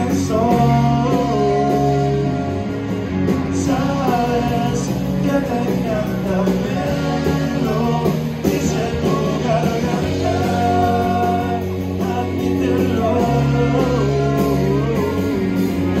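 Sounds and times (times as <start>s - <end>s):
bass guitar: 0.0s - 16.0s
electric guitars: 0.0s - 16.0s.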